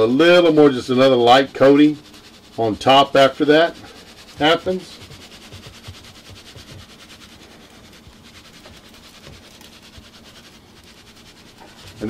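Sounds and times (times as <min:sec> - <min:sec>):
granules pattering from shaker: 0:01.4 - 0:12.0.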